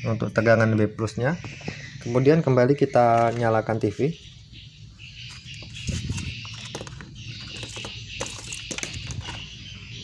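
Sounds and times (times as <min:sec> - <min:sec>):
high repeating chirping: 0:00.0 - 0:10.0.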